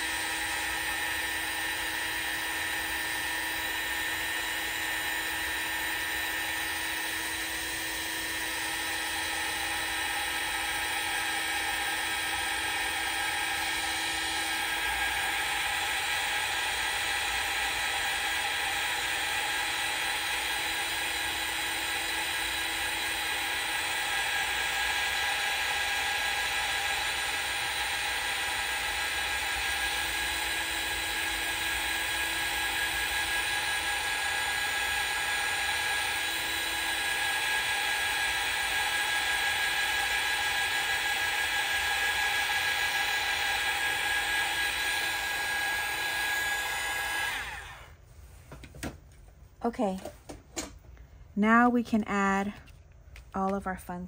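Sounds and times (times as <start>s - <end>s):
heat gun fan whine: 0.0s - 53.7s.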